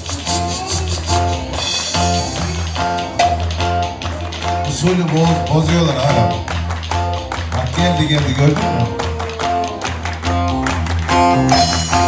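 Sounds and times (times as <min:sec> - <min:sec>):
folk dance music from a band: 0:00.0 - 0:12.0
plucked string instrument: 0:00.0 - 0:12.0.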